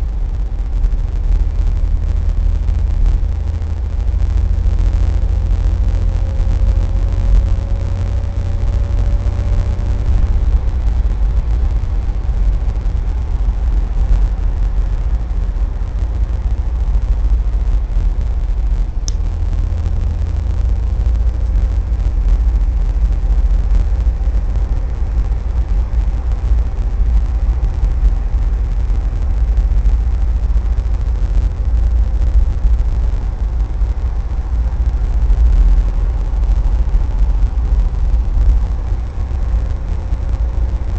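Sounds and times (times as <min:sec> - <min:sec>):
car engine and tyre rumble: 0:00.0 - 0:40.9
faint rising whine: 0:00.0 - 0:40.9.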